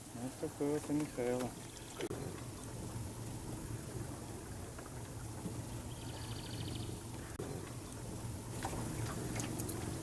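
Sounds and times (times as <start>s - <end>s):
steady low hum: 0.0s - 10.0s
water splashing and lapping: 0.0s - 10.0s.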